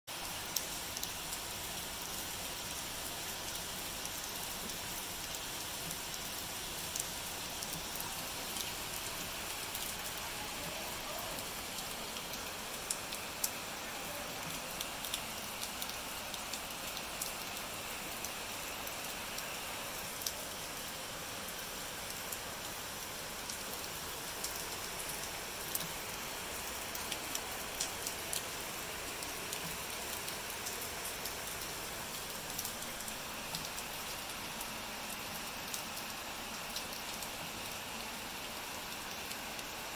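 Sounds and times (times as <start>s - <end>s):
sharp drips and ticks: 0.1s - 39.9s
steady rain hiss: 0.1s - 39.9s.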